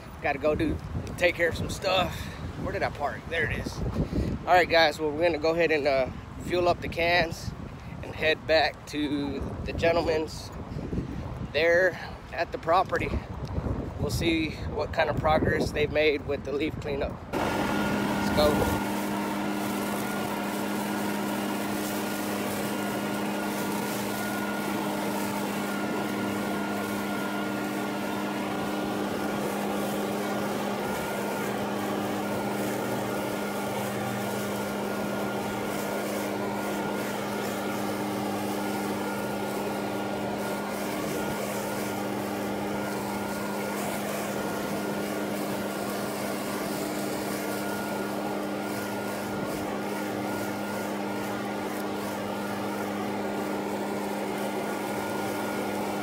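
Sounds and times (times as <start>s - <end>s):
leaf blower running: 0.0s - 15.0s, 15.7s - 56.0s.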